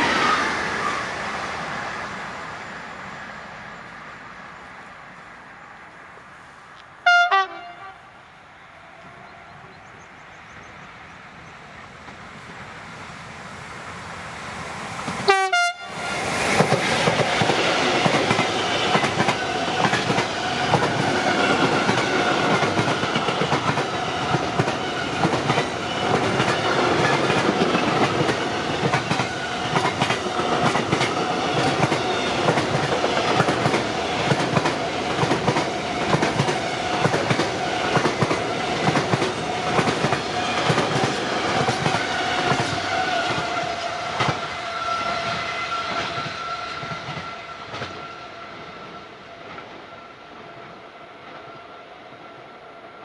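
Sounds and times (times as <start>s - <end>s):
train passing: 0.0s - 53.0s.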